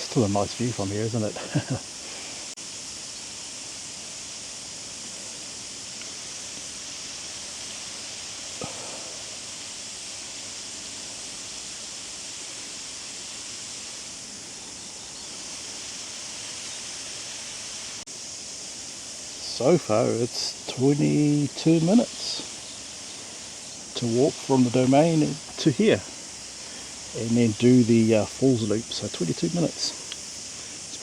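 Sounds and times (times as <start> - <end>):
high-pitched outdoor hiss: 0.0 - 31.0.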